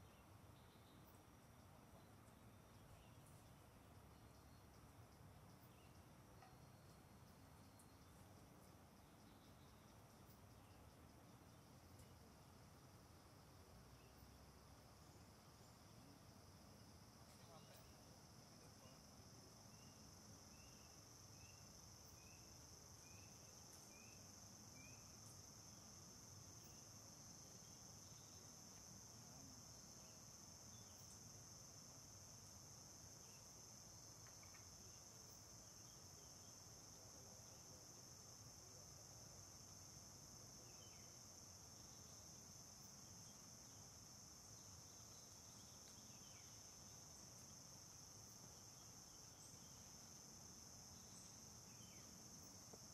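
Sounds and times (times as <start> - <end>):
insect chorus: 0.0 - 52.9
quick insect chirps: 0.0 - 52.9.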